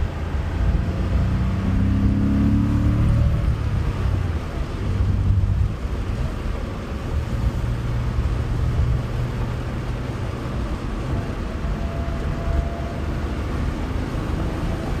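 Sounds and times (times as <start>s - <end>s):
car engine running from inside cabin: 0.0s - 15.0s.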